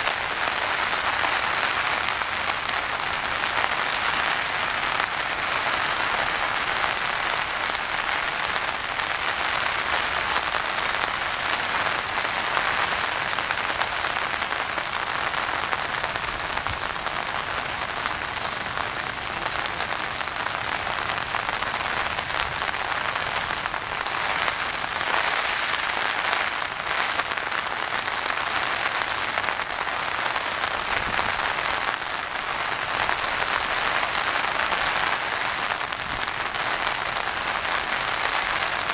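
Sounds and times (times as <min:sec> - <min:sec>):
rain falling on a pond: 0:00.0 - 0:38.9.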